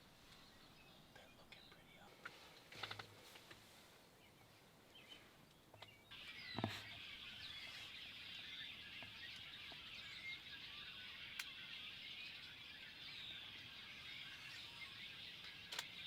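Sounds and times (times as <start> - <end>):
chorus of wild birds chirping: 0.0 - 16.0.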